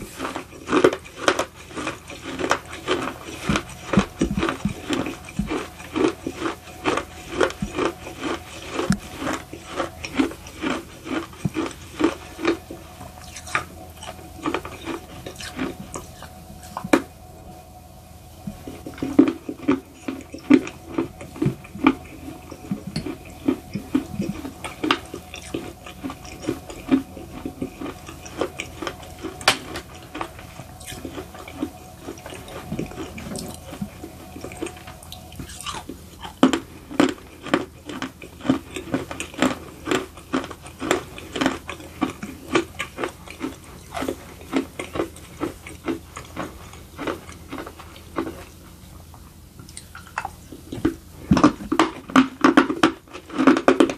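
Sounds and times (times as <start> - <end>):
crunching and chewing: 0.0 - 17.3, 18.4 - 53.9.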